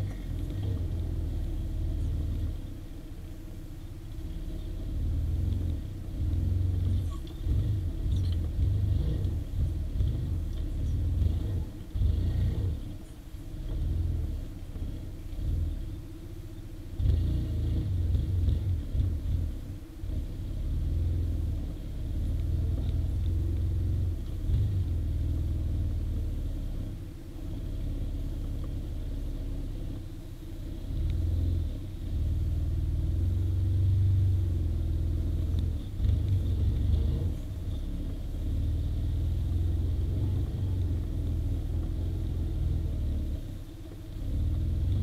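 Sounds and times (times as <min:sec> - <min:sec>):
quad engine rumbling: 0:00.0 - 0:45.0.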